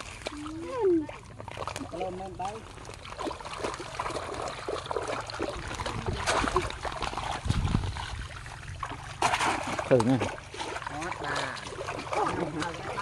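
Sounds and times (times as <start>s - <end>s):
muddy water splashing and sloshing: 0.0s - 13.0s.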